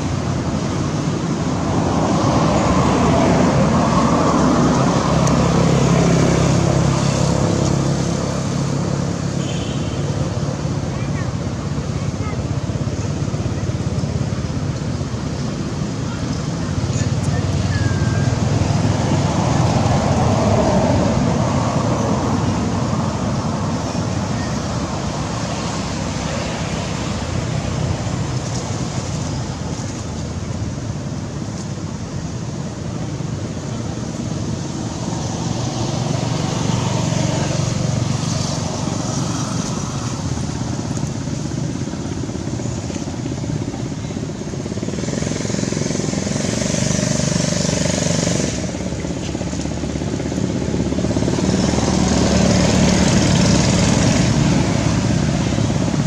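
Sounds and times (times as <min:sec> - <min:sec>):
passing motorbikes and cars: 0:00.0 - 0:56.0.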